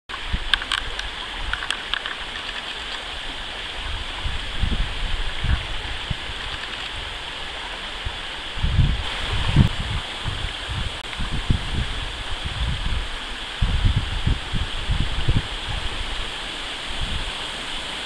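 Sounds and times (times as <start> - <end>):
stream flowing: 0.1 - 18.0.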